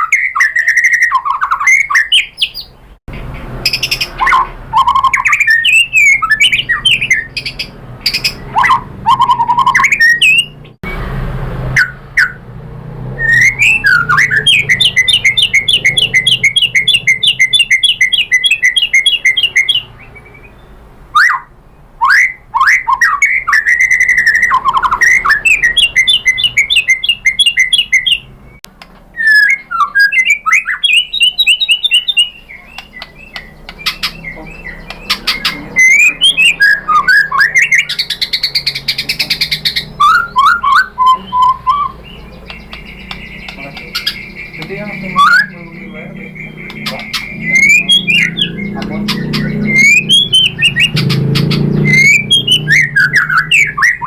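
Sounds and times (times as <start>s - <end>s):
bird singing whistled phrases: 0.0s - 2.7s, 3.7s - 11.0s, 13.2s - 28.6s, 29.2s - 54.0s.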